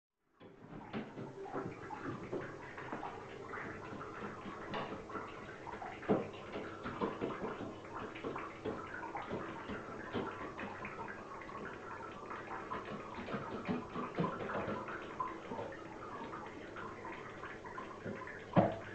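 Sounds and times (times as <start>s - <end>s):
bird splashing water: 0.6s - 18.9s.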